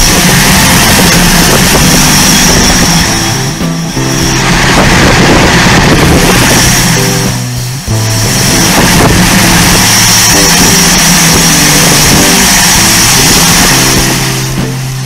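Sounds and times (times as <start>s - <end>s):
bass line of held notes: 0.0s - 15.0s
dense noisy wash: 0.0s - 15.0s.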